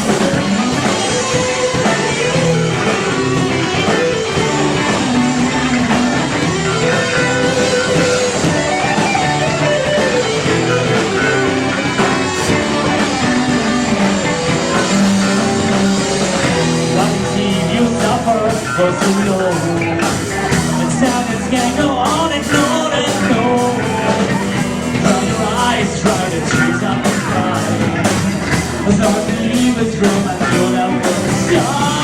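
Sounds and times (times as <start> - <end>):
electric guitar: 0.0 - 32.0
live rock band playing: 0.0 - 32.0.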